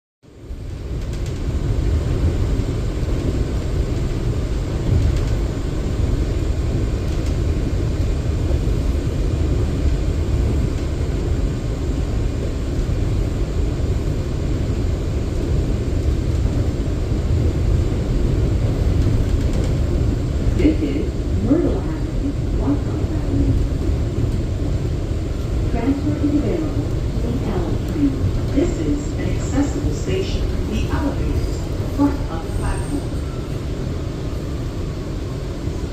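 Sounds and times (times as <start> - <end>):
subway train rumble: 0.2 - 35.9.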